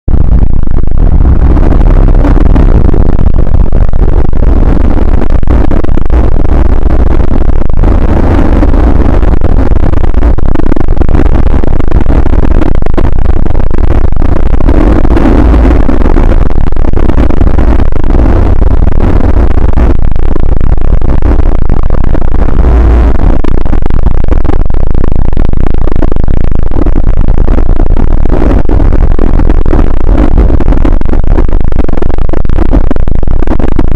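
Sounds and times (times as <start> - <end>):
deep rumble: 0.0 - 33.9
harsh distorted alarm noise: 0.1 - 33.9.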